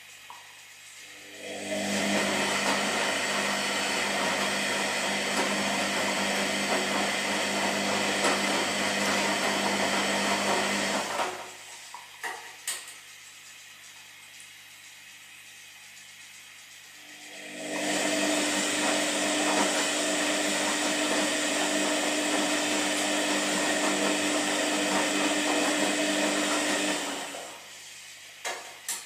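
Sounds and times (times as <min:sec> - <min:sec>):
washing machine motor hum: 0:00.0 - 0:29.0.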